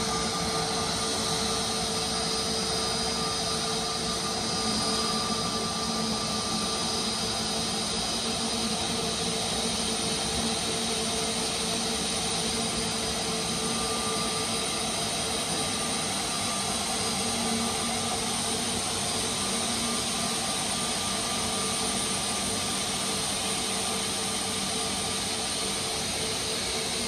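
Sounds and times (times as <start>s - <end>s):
jet engines at taxi power: 0.0s - 27.0s.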